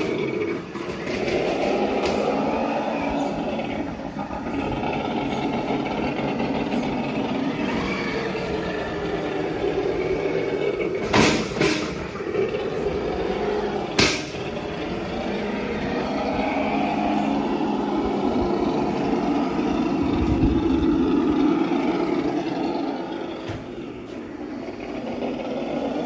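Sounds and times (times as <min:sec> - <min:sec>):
rc car motor whining: 0:00.0 - 0:26.0.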